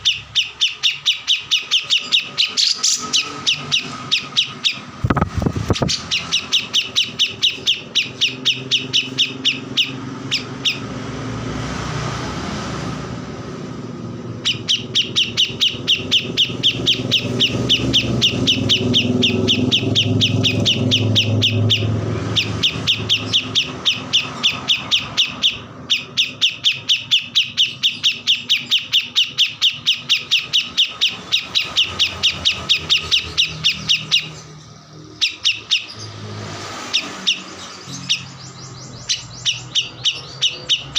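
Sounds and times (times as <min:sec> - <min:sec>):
songbird chirping: 0:00.0 - 0:12.3, 0:13.4 - 0:40.9.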